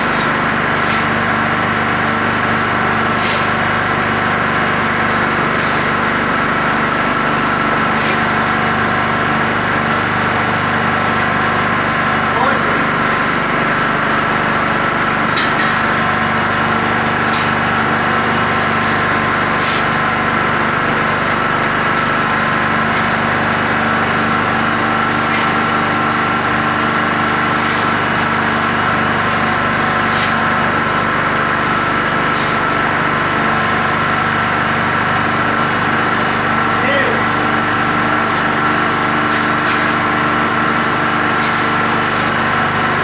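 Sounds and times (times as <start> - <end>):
concrete mixer running: 0.0 - 43.0
generator engine: 0.0 - 43.0.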